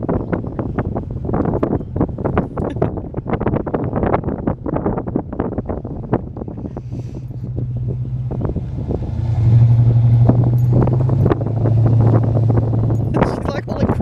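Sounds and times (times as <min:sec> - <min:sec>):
car engine and road hum: 0:00.0 - 0:14.0
wind buffeting microphone: 0:00.0 - 0:14.0.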